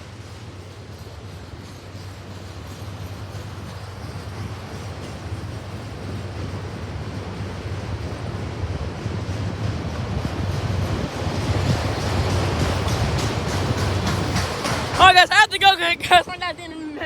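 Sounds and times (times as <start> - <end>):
freight train rumbling and rattling: 0.0 - 17.0.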